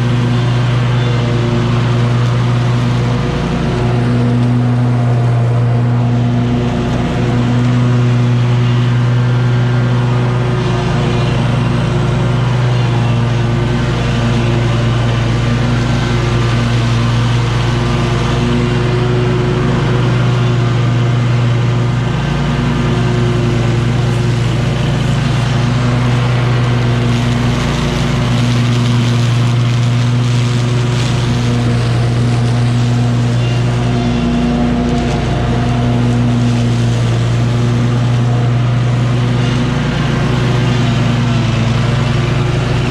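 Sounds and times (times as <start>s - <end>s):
cutting deck whir: 0.0s - 42.9s
mower engine running: 0.0s - 42.9s.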